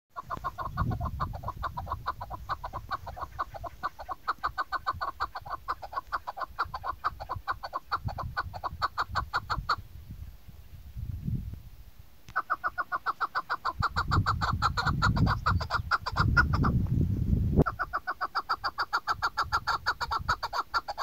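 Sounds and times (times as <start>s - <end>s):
partridge clucking calls: 0.1s - 9.8s, 12.3s - 16.8s, 17.6s - 21.0s
wind rumble on microphone: 0.2s - 12.6s, 13.6s - 20.6s.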